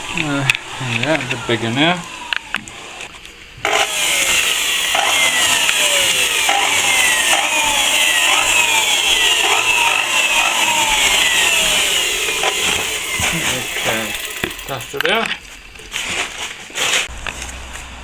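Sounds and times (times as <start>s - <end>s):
power tool cutting into plaster: 1.0s - 16.3s.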